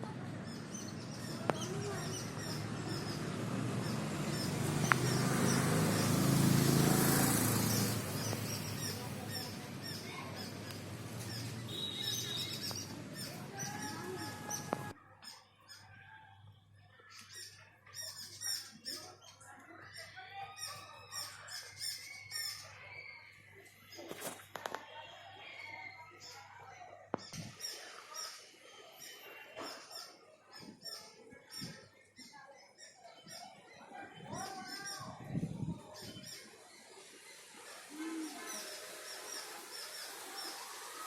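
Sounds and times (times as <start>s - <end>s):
birds chirping and singing: 0.0s - 16.0s, 17.1s - 24.4s, 25.5s - 41.0s.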